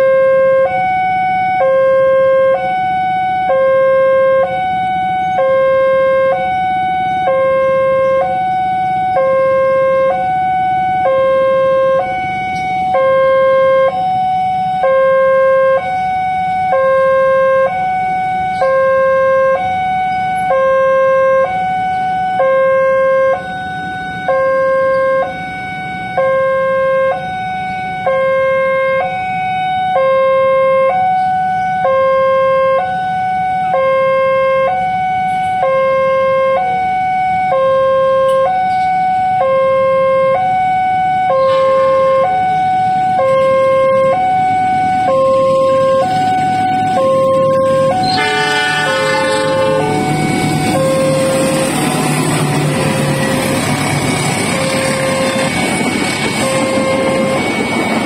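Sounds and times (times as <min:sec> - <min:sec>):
two-tone level-crossing alarm: 0:00.0 - 0:58.0.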